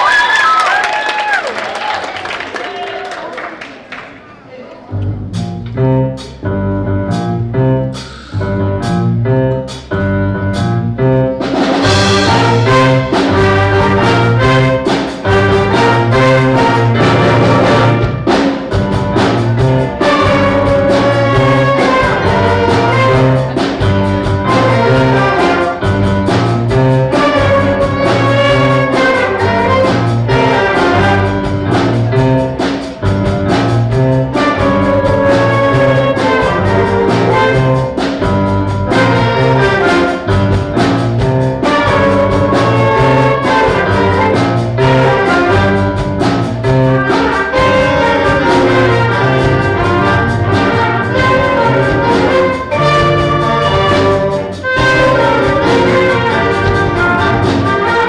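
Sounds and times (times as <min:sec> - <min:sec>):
concert band playing: 0:05.0 - 0:58.0
trumpets and trombones: 0:10.4 - 0:58.0.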